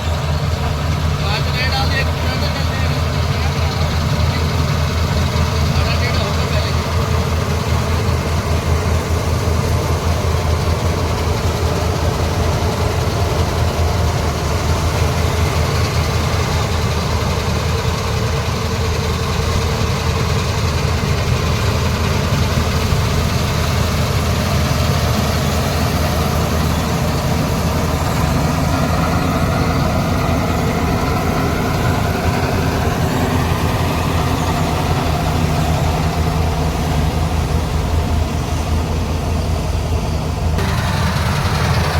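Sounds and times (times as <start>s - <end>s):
combine harvester diesel engine: 0.0s - 41.9s.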